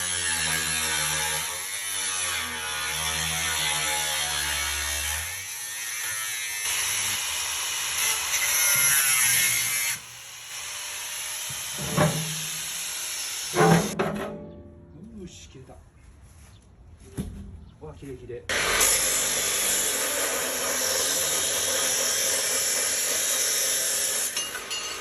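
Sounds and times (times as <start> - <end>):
power tool cutting steel: 0.0 - 14.0, 18.5 - 25.0.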